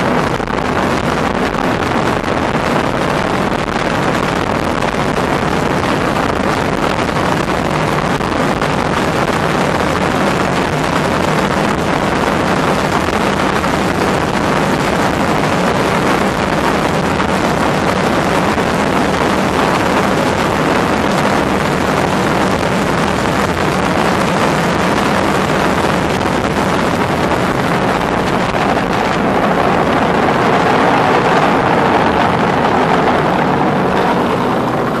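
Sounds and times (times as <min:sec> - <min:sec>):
racing outboard engine: 0:00.0 - 0:35.0
wind noise on microphone: 0:00.0 - 0:35.0.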